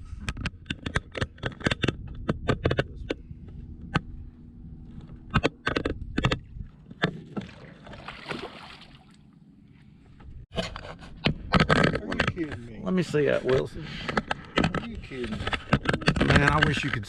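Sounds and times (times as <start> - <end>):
knocks and clatter on a boat: 0.0 - 8.8, 9.9 - 17.0
low steady hum: 0.0 - 17.0.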